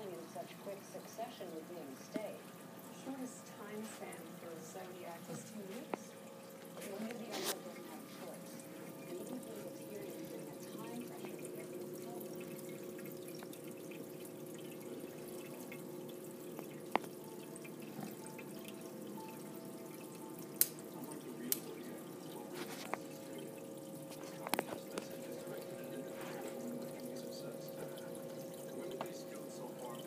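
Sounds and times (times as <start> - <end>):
pump hum: 0.0 - 30.0
water trickling and dripping: 0.0 - 30.0.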